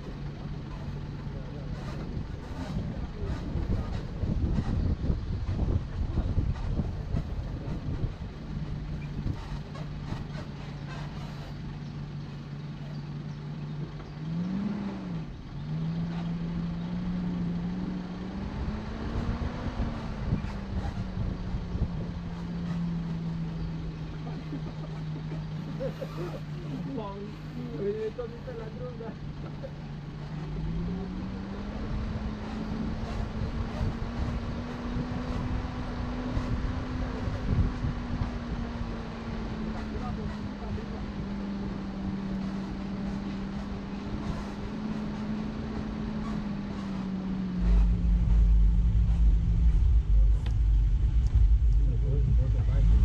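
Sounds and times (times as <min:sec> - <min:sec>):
car engine pulling: 0:00.0 - 0:53.0
low rumble with knocks: 0:00.0 - 0:53.0.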